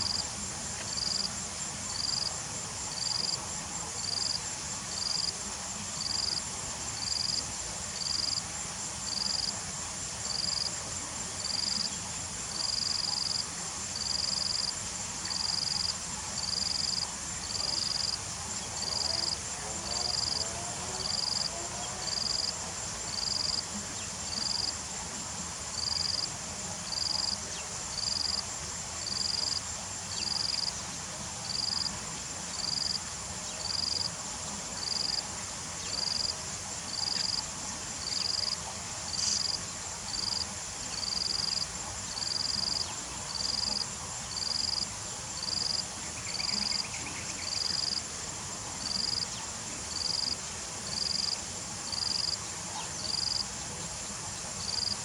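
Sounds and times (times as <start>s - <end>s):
insect chirping: 0.0s - 55.0s.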